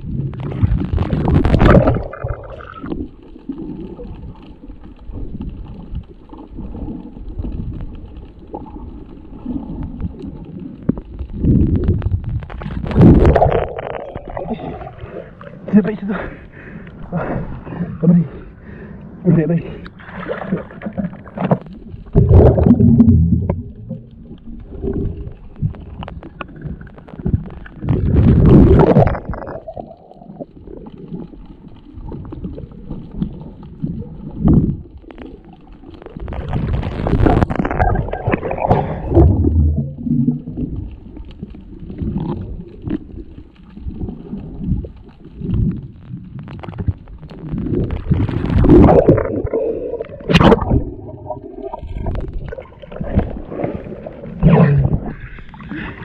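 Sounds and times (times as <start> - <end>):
muffled water gurgling: 0.0 - 56.0.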